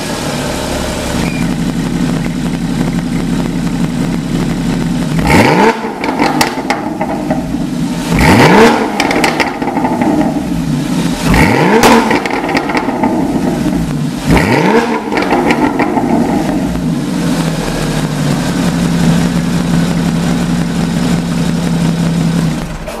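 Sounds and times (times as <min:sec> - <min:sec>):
sports car engine revving: 0:00.0 - 0:23.0
steady engine note: 0:00.0 - 0:23.0.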